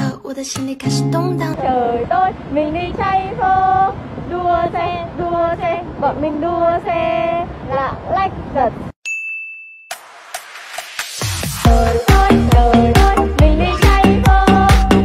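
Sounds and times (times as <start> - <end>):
high-pitched singing voice: 0.0 - 8.8, 11.6 - 15.0.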